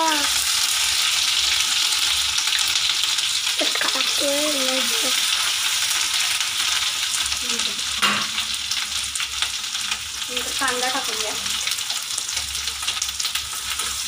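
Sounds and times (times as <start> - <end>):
paste sizzling in hot oil: 0.0 - 14.0.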